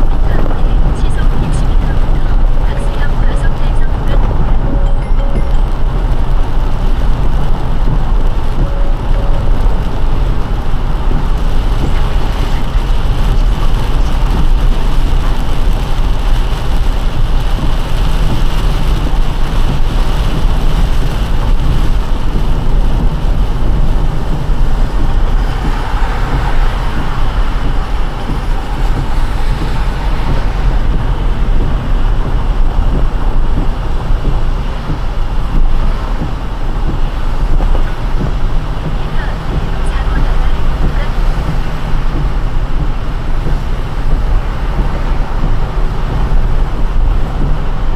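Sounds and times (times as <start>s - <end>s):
car tyres on wet road: 0.0s - 47.9s.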